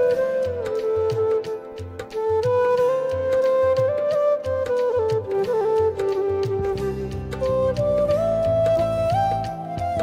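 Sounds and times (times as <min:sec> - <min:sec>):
gliding melody over low beat: 0:00.0 - 0:10.0.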